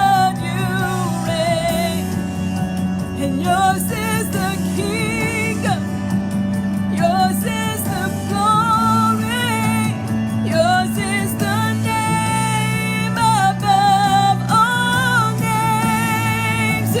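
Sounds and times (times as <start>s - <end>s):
sustained instrumental backing: 0.0s - 17.0s
worship song singing with vibrato: 0.0s - 17.0s.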